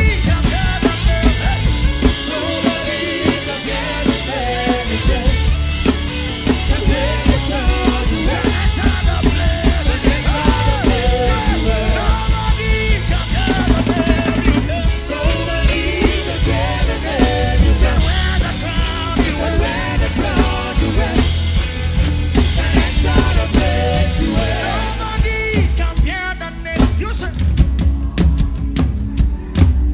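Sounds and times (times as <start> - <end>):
drum kit played hard: 0.0 - 29.9
loud live band music: 0.0 - 29.9.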